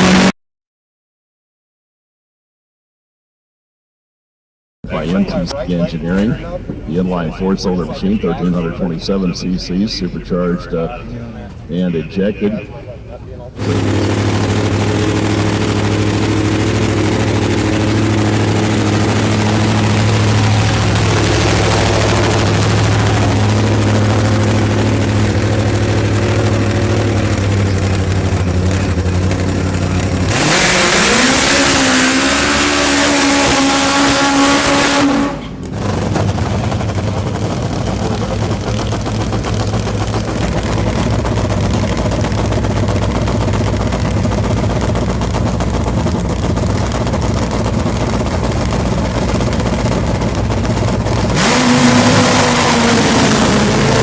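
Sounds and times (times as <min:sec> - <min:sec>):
drag motorcycle engine: 0:00.0 - 0:00.3, 0:04.9 - 0:54.0
full-throttle engine run: 0:00.0 - 0:00.3, 0:04.8 - 0:54.0.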